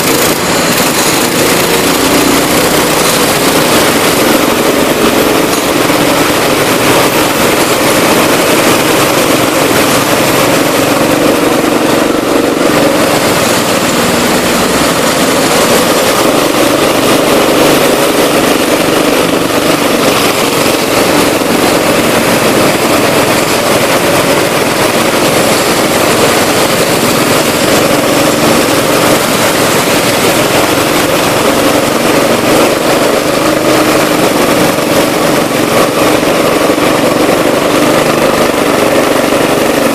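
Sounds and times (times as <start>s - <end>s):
go-kart engine running: 0.0s - 39.9s
other karts driving: 0.0s - 39.9s.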